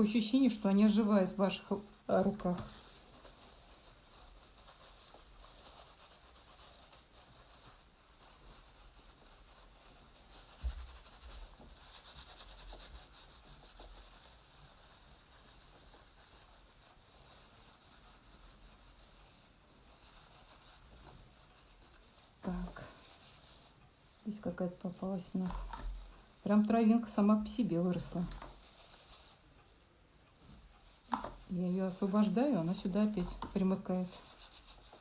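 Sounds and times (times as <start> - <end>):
rubbing of wool by hand: 0.0 - 35.0.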